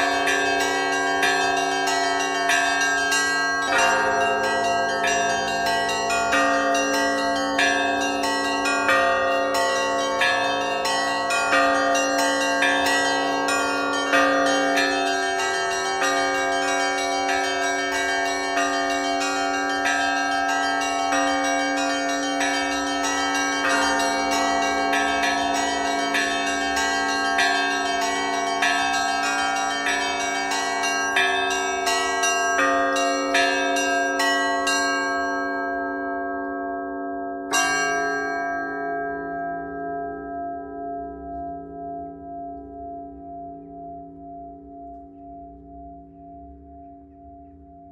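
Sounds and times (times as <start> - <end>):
church bells pealing: 0.0 - 47.9.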